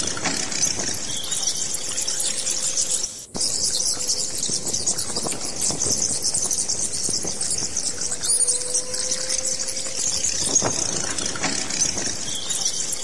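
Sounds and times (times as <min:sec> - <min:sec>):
bats squeaking: 0:00.0 - 0:13.0.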